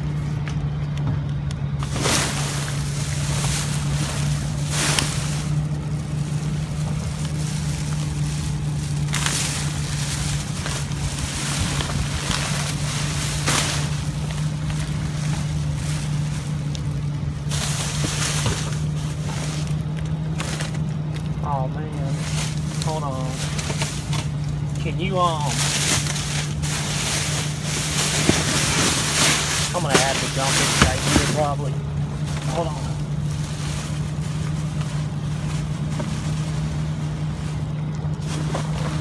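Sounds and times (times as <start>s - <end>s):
low steady hum: 0.0s - 39.0s
plastic bags rustling: 1.6s - 39.0s.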